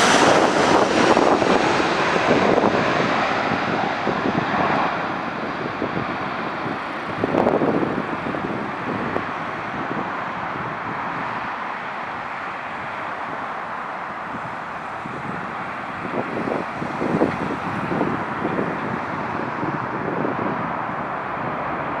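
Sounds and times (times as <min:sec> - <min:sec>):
jet engine noise: 0:00.0 - 0:22.0
wind gusting on microphone: 0:00.0 - 0:22.0.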